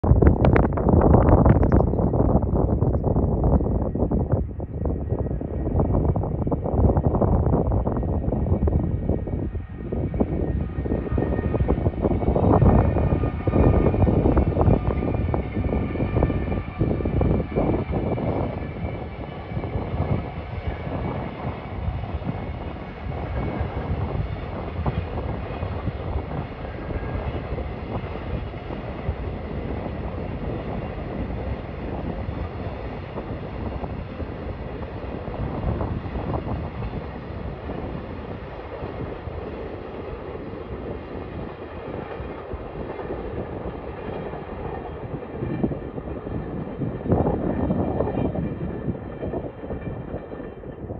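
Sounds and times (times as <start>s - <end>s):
freight train rumbling on rails: 0.0s - 50.9s.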